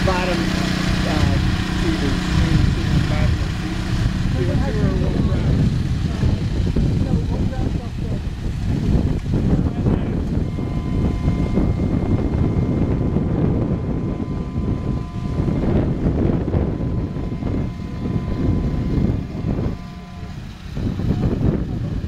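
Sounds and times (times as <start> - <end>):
boat motors whining and rumbling: 0.0 - 22.0
wind buffeting microphone: 0.0 - 22.0.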